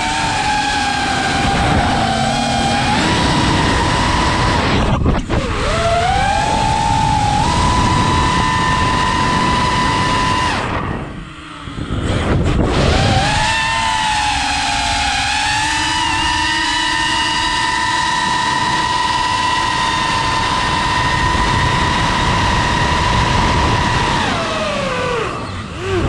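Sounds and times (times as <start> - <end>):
drone motors whining: 0.0 - 26.0
wind rush: 0.0 - 26.0.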